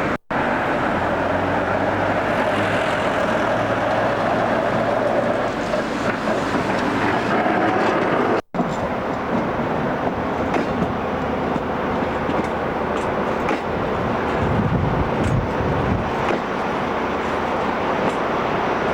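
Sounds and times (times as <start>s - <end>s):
train rumbling on rails: 0.0s - 18.9s
wheels clicking over rail joints: 0.9s - 18.9s.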